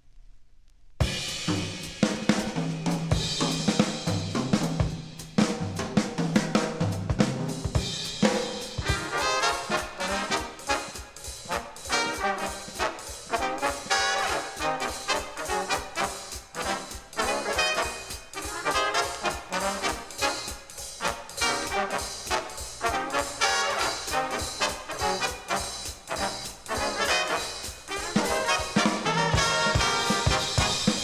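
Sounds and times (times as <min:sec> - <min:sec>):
big-band jazz: 0:01.0 - 0:31.0.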